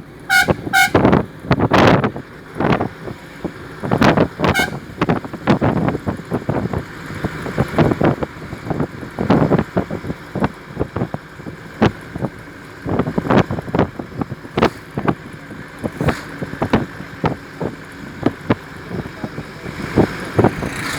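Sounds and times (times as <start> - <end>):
wind buffeting microphone: 0.3 - 20.9.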